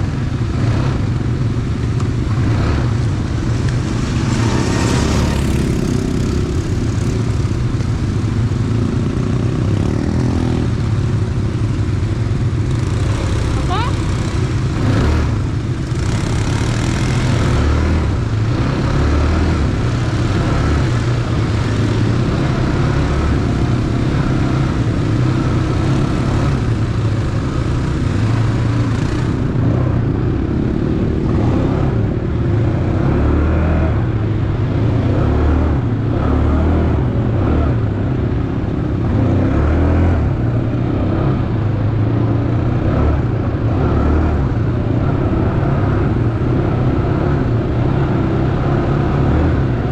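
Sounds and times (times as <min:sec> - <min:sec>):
atv engine rumbling: 0:00.0 - 0:49.9.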